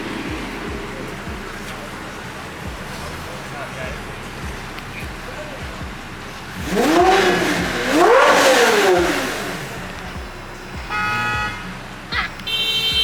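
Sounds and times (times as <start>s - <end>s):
car engine revving: 0.0s - 13.0s
car horn toot: 0.0s - 13.0s.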